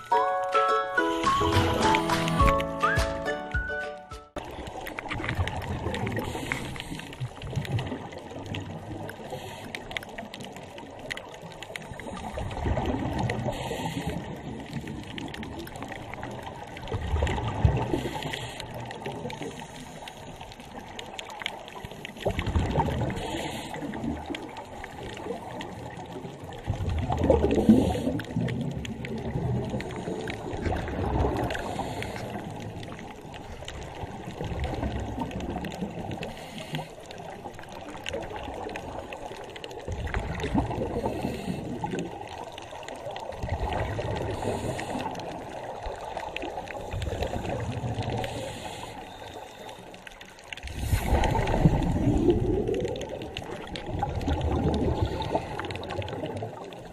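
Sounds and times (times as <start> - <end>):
underwater exhaled bubbles gurgling: 4.4 - 56.9.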